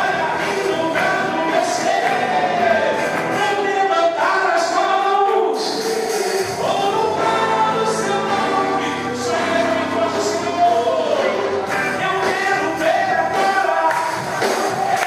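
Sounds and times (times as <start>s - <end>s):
choir singing: 0.0s - 15.0s
gospel band playing: 0.0s - 15.0s.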